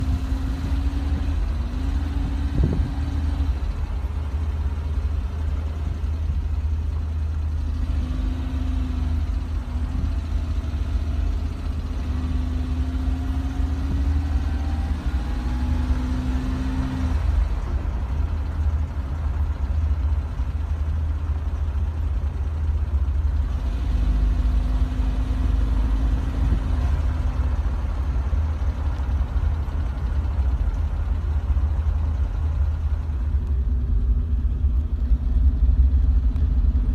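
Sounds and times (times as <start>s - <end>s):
vehicle engine rumbling: 0.0s - 36.9s.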